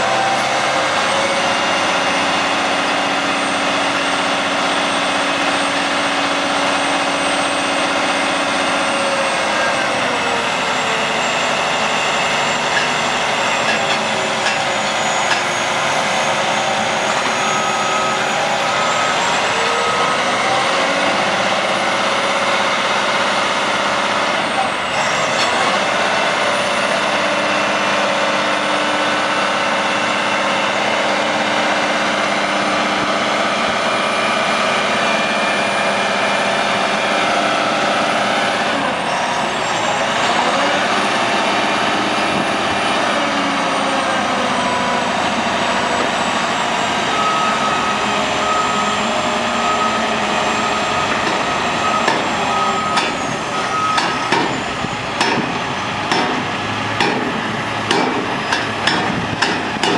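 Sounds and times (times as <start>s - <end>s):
heavy diesel truck engine: 0.0s - 59.9s.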